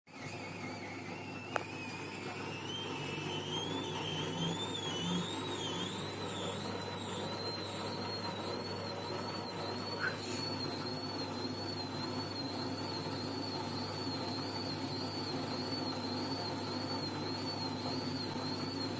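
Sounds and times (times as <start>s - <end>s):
motor humming: 0.2s - 18.9s
washing machine drum spinning: 0.4s - 18.9s
high-pitched wavering squeal: 2.6s - 18.9s.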